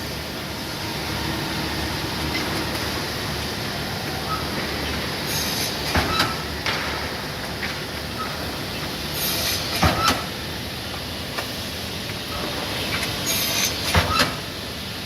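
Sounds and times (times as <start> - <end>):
workshop machine noise: 0.0 - 15.0.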